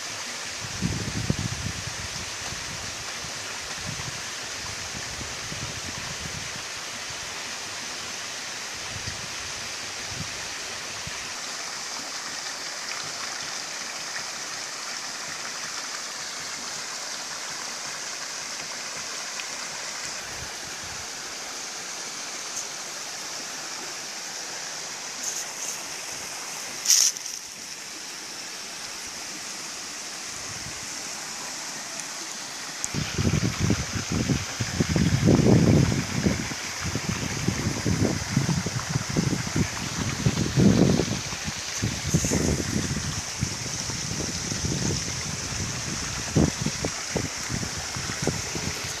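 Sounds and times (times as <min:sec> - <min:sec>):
hiss-like outdoor background noise: 0:00.0 - 0:49.0.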